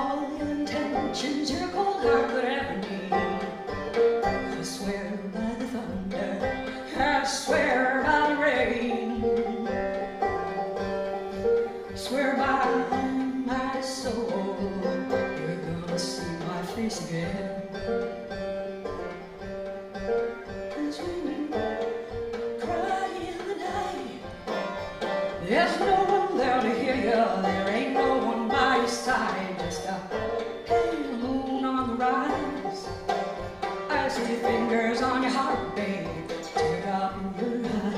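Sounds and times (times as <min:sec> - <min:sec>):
woman singing: 0:00.0 - 0:10.7, 0:11.4 - 0:19.3, 0:20.7 - 0:24.4, 0:25.3 - 0:37.9
banjo picking: 0:00.0 - 0:37.9.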